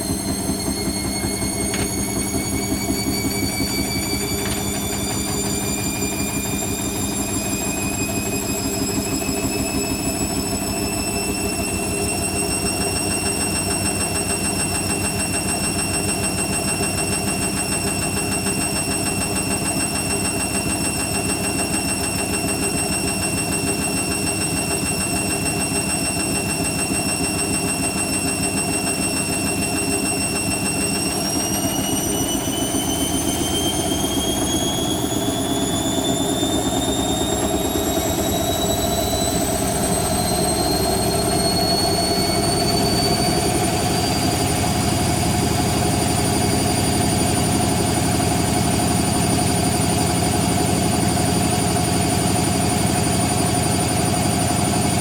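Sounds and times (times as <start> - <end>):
washing machine spinning up: 0.0 - 55.0.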